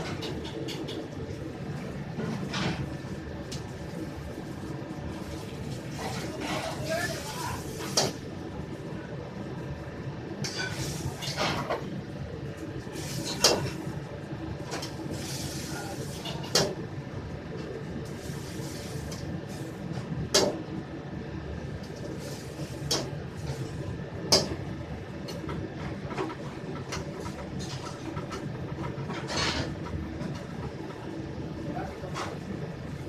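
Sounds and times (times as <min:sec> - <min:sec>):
burners and extraction running: 0:00.0 - 0:33.0.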